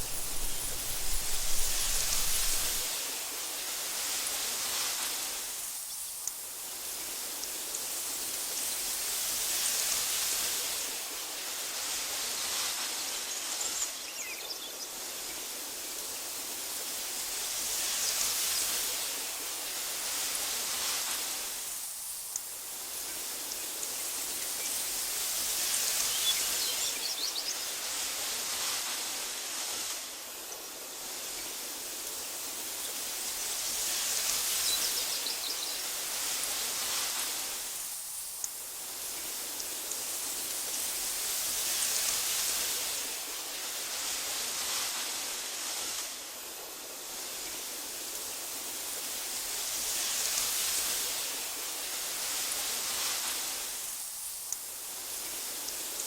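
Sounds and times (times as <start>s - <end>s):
wind blowing through grass: 0.0s - 56.0s.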